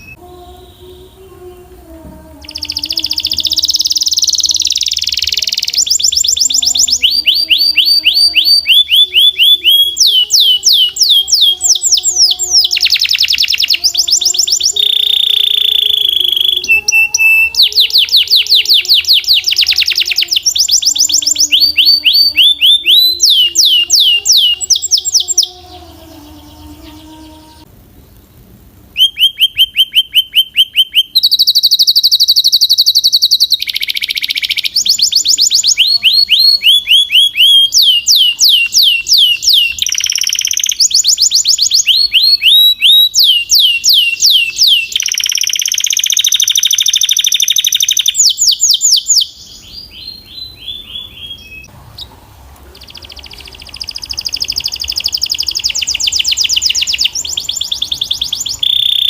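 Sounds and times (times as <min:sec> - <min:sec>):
canary singing in rapid trills: 0:00.0 - 0:01.6, 0:02.2 - 0:27.7, 0:28.9 - 0:52.1, 0:52.8 - 0:59.0.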